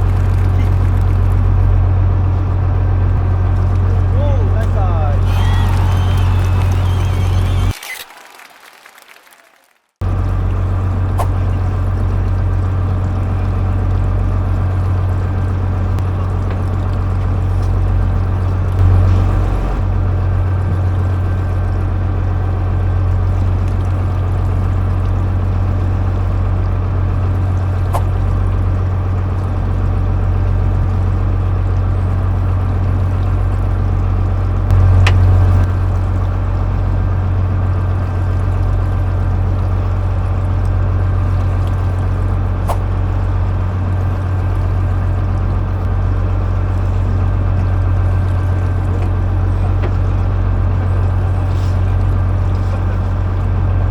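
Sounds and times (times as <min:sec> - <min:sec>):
boat engine droning: 0:00.0 - 0:08.0, 0:10.0 - 0:53.9
light water noise: 0:00.0 - 0:08.0, 0:10.0 - 0:53.9.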